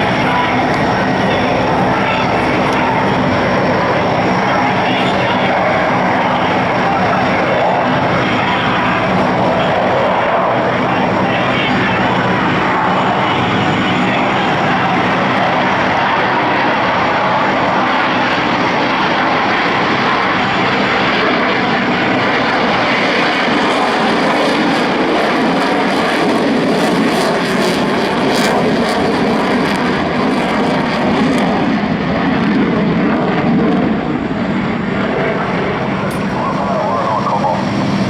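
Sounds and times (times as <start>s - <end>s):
airplane engine: 0.0s - 38.0s.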